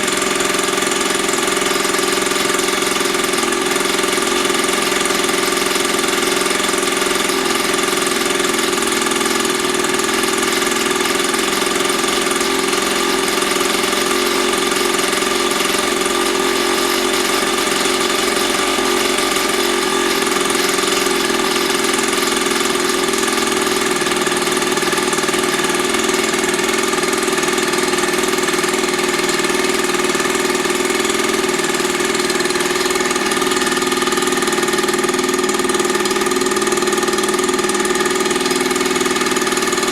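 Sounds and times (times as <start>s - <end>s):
small motorbike engine idling: 0.0s - 39.9s.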